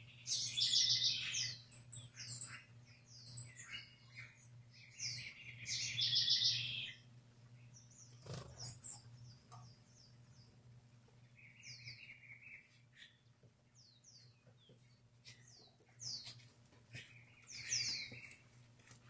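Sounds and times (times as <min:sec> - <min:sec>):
faint steady low hum: 0:00.0 - 0:19.0
small birds chirping: 0:00.0 - 0:19.0.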